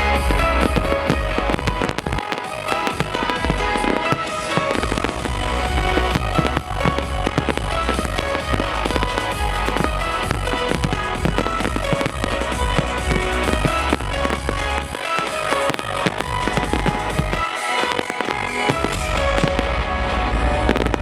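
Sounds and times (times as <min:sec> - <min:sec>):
fireworks bursting and crackling: 0:00.0 - 0:21.0
music with heavy bass: 0:00.0 - 0:21.0.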